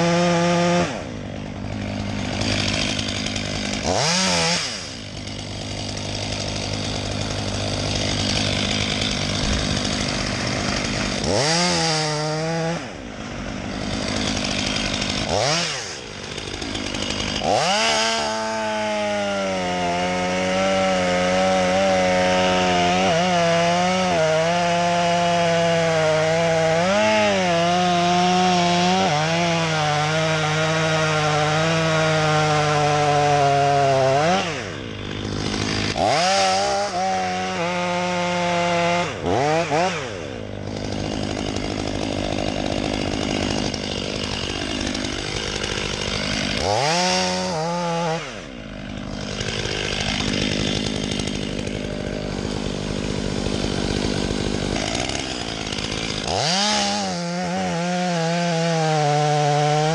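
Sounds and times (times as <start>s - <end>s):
power saw droning: 0.0s - 59.9s.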